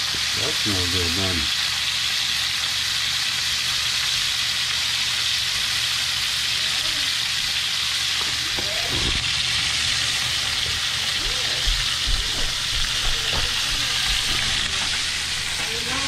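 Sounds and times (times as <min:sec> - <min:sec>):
meat and onions sizzling in skillet: 0:00.0 - 0:16.0.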